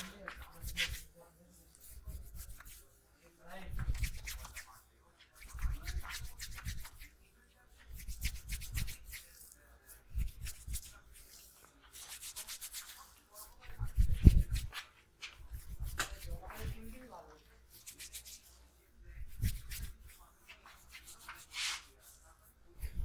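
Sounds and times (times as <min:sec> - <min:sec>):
hands rubbing skin and hair: 0:00.0 - 0:23.0.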